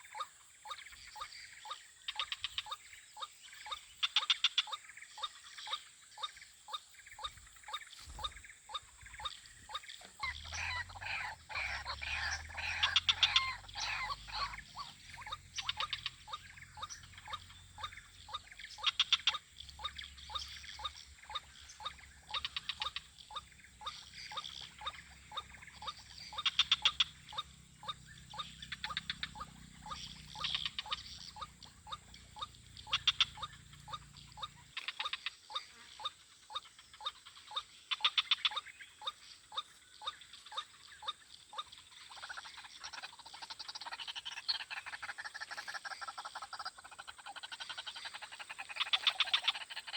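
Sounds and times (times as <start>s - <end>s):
frogs clicking calls: 0.0s - 49.9s
frog rattling trill: 8.3s - 49.9s.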